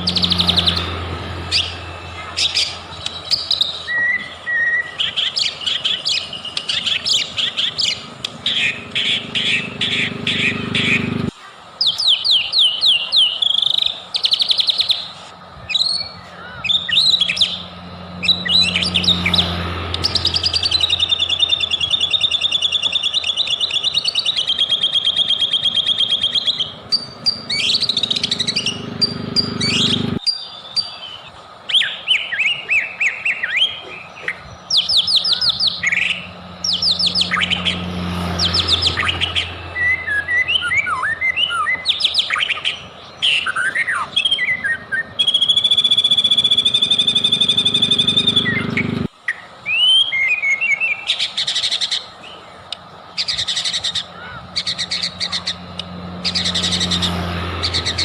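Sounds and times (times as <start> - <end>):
songbird singing rattles and whistles: 0.0 - 11.2, 11.8 - 52.4.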